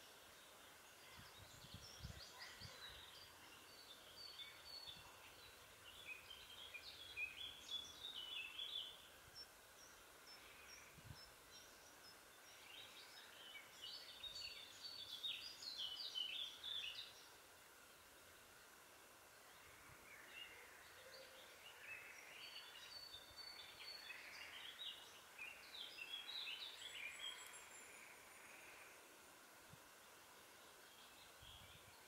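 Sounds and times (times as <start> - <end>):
bird chirping: 0.0 - 18.2, 19.4 - 29.0.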